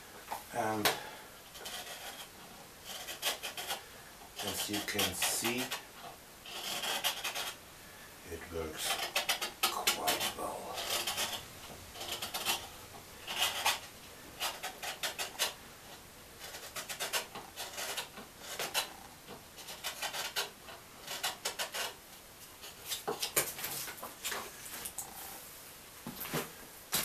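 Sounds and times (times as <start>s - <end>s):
blade scraping and shaving wood: 0.6s - 7.6s, 8.3s - 19.0s, 19.6s - 24.9s.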